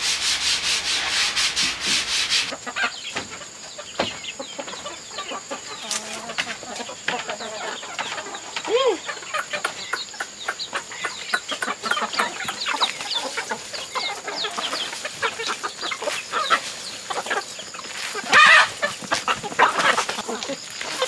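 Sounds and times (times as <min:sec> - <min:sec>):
hens and roosters clucking: 0:00.0 - 0:21.0.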